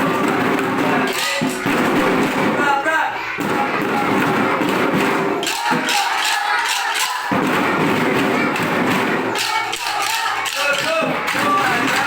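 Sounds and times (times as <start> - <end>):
marching drums being struck: 0.0 - 2.8, 3.4 - 12.0.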